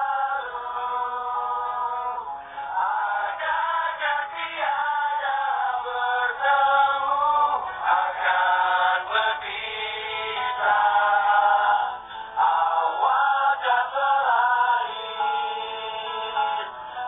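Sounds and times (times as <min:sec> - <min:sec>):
men singing together: 0:00.0 - 0:17.0.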